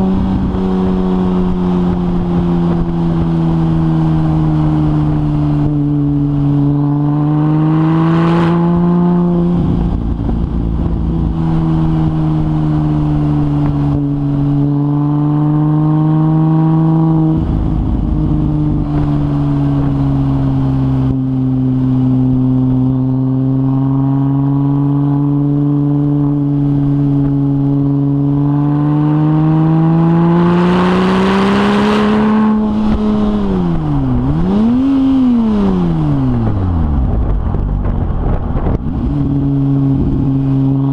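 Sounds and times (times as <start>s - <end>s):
sports car engine running: 0.0s - 40.9s.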